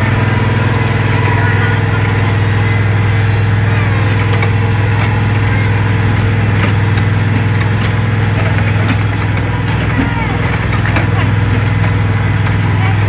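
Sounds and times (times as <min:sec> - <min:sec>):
road train engine droning: 0:00.0 - 0:13.0.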